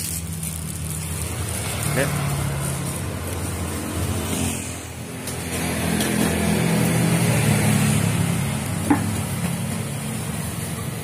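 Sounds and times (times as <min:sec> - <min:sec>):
vehicle engine passing: 0:00.0 - 0:11.0.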